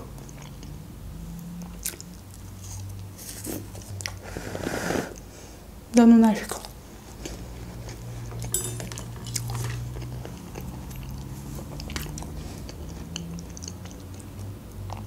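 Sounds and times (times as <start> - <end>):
chewing and mouth sounds: 0.0 - 4.2, 6.5 - 15.0.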